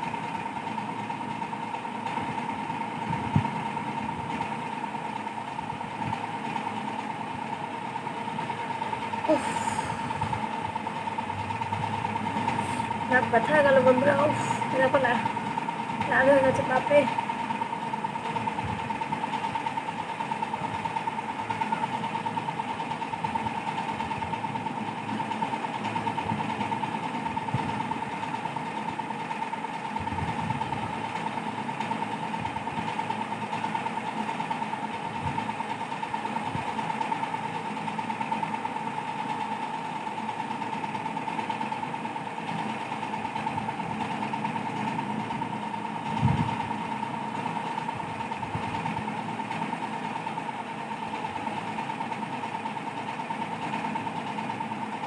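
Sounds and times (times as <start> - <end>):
mechanical hum with whine: 0.0 - 55.0.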